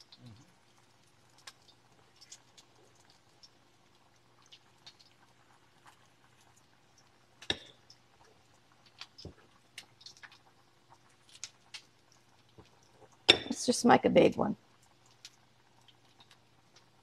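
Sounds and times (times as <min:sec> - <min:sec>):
patties frying in oil: 0:00.0 - 0:17.0.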